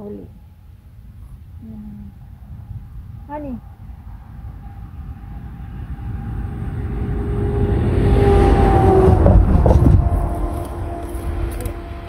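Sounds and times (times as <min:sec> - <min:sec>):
engine approaching: 0:01.6 - 0:12.0.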